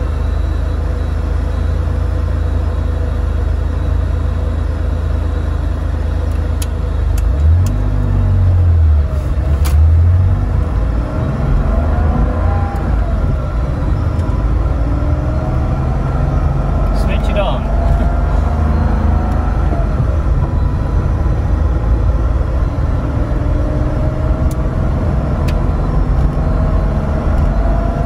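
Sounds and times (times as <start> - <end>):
car engine rumble in cabin: 0.0 - 28.0.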